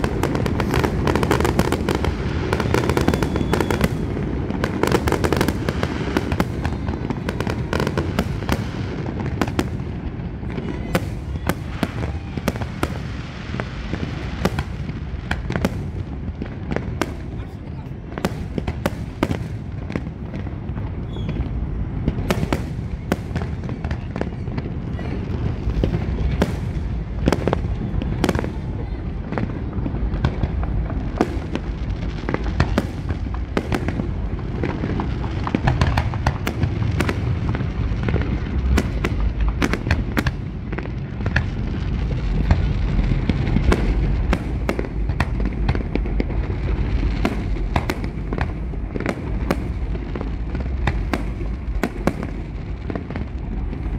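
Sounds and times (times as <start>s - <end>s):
continuous low rumble: 0.0s - 53.9s
fireworks bangs: 0.0s - 53.9s.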